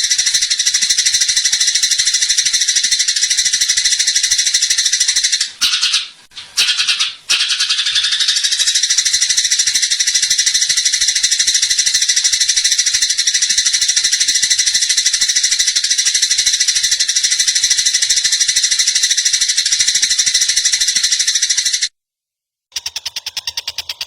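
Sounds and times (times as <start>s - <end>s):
bird fast rattling chatter: 0.0s - 21.9s, 22.7s - 24.0s.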